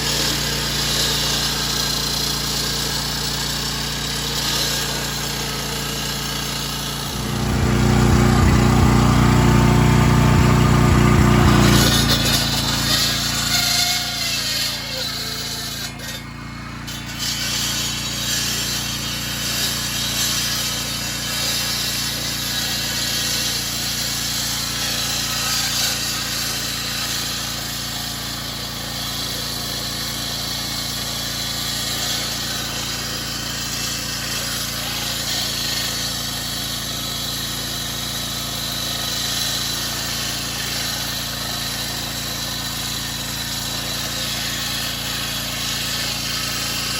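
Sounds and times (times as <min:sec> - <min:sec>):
concrete saw grinding concrete: 0:00.0 - 0:46.9.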